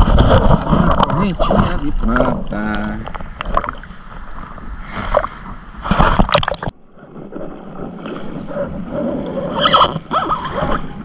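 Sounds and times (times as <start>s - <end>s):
muffled wash of water: 0.0s - 11.0s.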